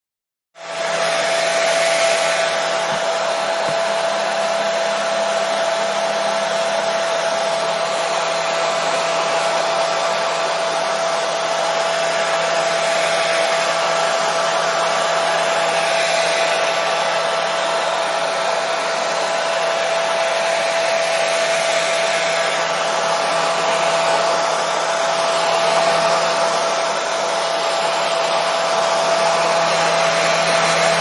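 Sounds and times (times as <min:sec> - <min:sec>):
hair dryer running: 0:00.6 - 0:31.0.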